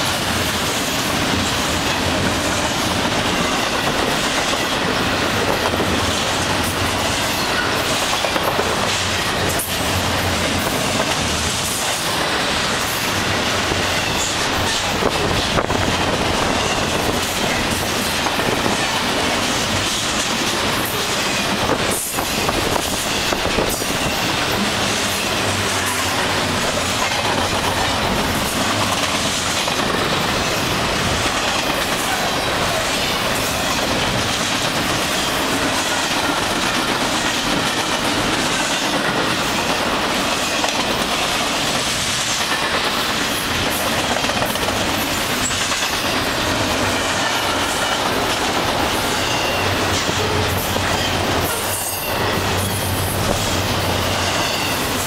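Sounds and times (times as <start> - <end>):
freight train wheels rumbling: 0.0 - 55.0
wheels clicking over rail joints: 0.0 - 55.0.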